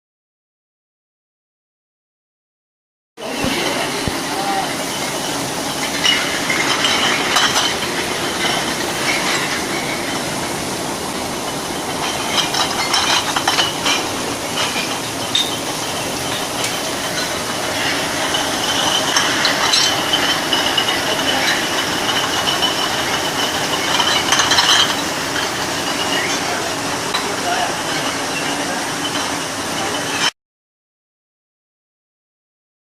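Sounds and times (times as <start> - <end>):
brushing machine whirring: 3.2 - 30.3
glass bottles clinking: 3.2 - 30.3.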